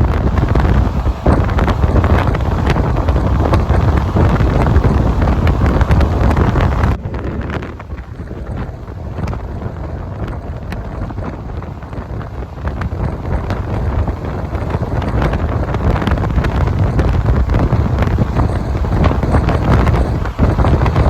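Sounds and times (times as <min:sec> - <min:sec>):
moving train rumble: 0:00.0 - 0:21.0
train wheels clicking and rattling: 0:00.0 - 0:21.0
wind buffeting microphone: 0:00.0 - 0:21.0.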